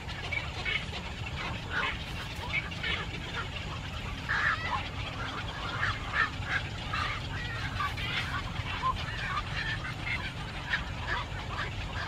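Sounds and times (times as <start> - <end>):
birds giving rapid short calls: 0.0 - 12.0
steady low rumble: 0.0 - 12.0.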